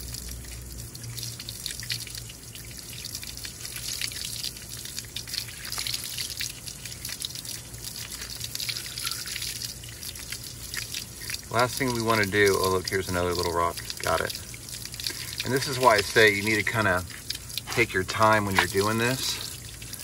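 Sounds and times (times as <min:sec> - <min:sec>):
water spattering on metal casing: 0:00.0 - 0:20.0.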